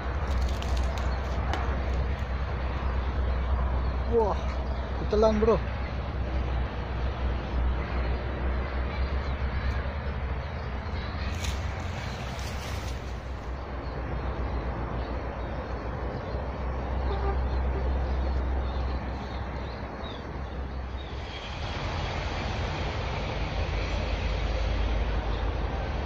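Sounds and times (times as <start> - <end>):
outdoor noise hiss: 0.0 - 26.0.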